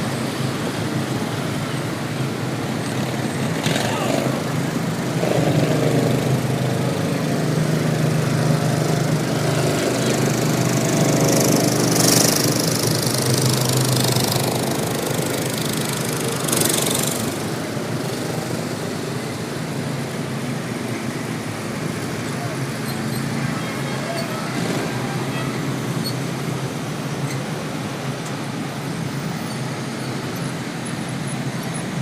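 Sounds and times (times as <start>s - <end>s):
lawn mower engines running: 0.0s - 32.0s.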